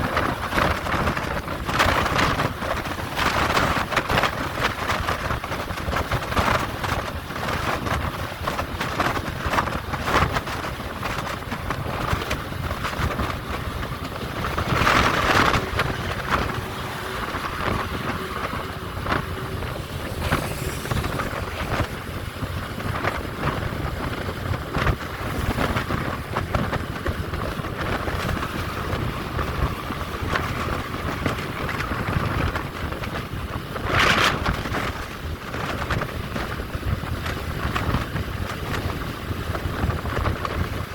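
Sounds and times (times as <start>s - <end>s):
truck road noise: 0.0s - 40.9s
wind buffeting: 0.0s - 40.9s.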